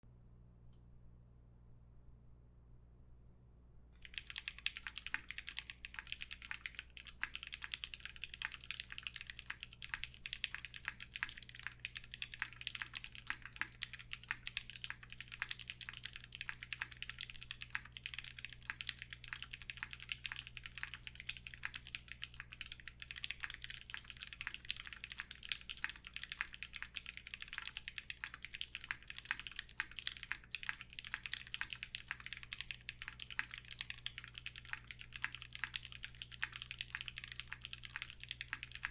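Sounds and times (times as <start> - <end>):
mechanical keyboard typing: 4.0 - 38.9.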